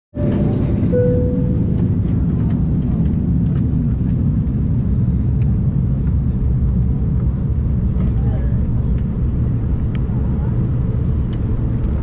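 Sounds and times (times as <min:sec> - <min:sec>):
airplane cabin low rumble: 0:00.2 - 0:12.0.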